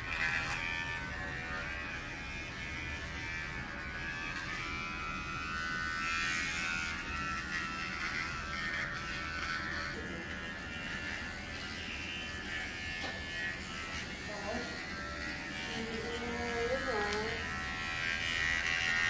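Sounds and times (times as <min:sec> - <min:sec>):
electric clipper buzzing: 0:00.0 - 0:19.0.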